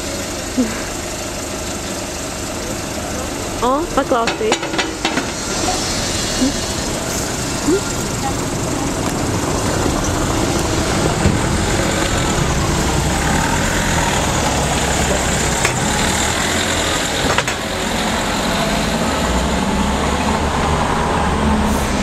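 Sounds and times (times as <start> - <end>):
car engine idling and driving off: 0.0 - 22.0.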